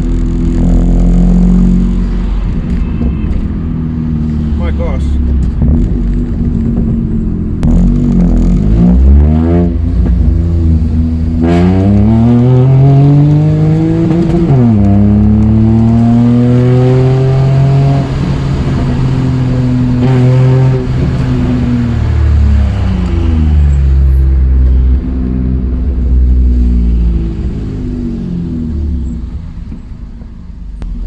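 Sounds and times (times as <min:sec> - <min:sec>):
heavy low rumble: 0:00.0 - 0:16.2, 0:18.0 - 0:31.0
car engine accelerating: 0:00.0 - 0:31.0.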